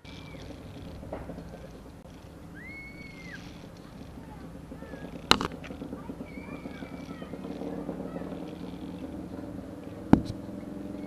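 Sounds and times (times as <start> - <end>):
faint chirping calls: 0.0 - 11.0
wooden steps and ropes creaking: 0.0 - 11.0.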